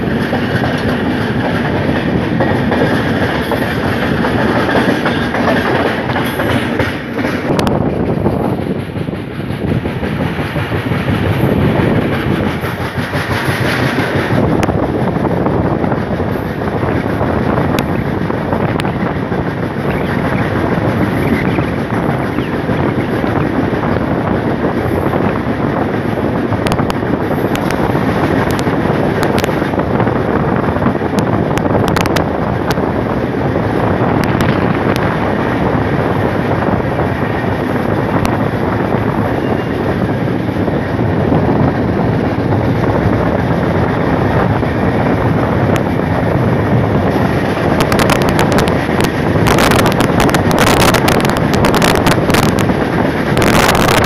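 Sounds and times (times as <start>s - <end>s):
train wheels rumbling on rails: 0.0s - 54.0s
wind rushing on microphone: 0.0s - 54.0s.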